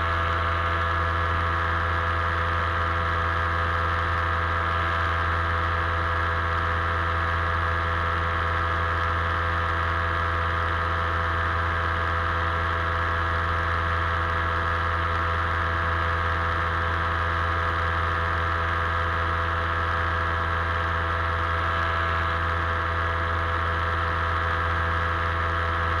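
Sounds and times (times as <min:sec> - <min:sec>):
paramotor engine and propeller: 0:00.0 - 0:26.0.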